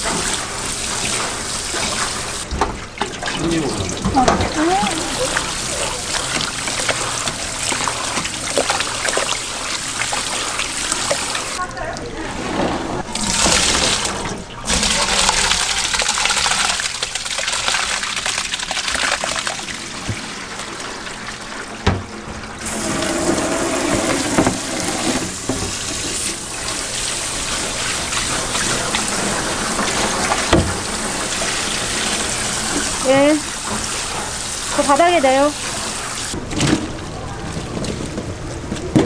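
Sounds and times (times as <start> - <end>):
tap water running and splashing: 0.0 - 12.0, 13.1 - 39.0.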